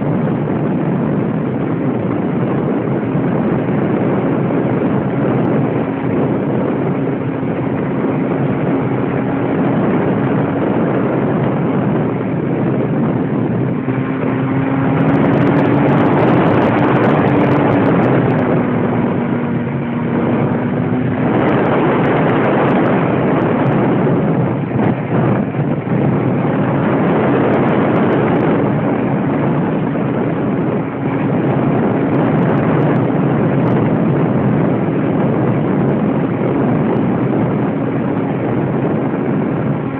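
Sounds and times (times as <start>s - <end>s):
loud rushing noise: 0.0s - 39.9s.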